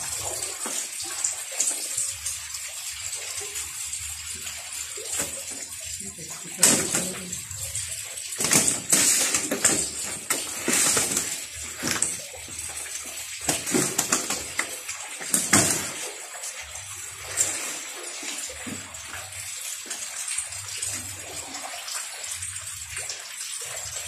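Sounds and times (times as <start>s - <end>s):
water splashing in a plastic crate: 0.0s - 24.0s.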